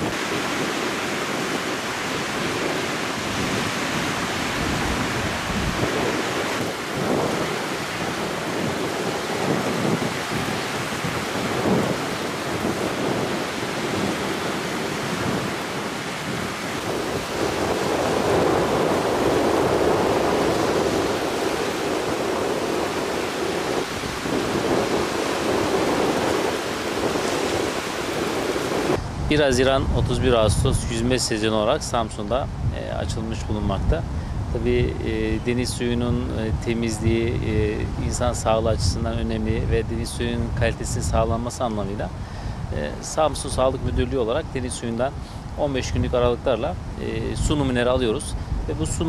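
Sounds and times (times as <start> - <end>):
surf breaking on a sandy beach: 0.0 - 49.0
wind buffeting the microphone: 0.0 - 49.0.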